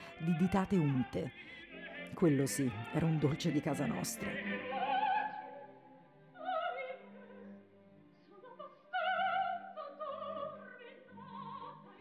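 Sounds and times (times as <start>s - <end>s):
operatic soprano singing: 0.0s - 12.0s.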